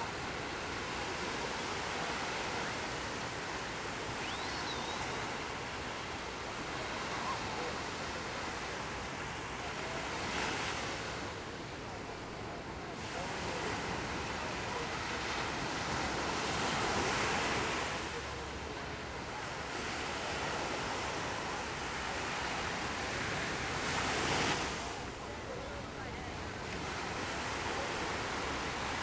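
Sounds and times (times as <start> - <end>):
ocean waves washing on beach: 0.0 - 29.0.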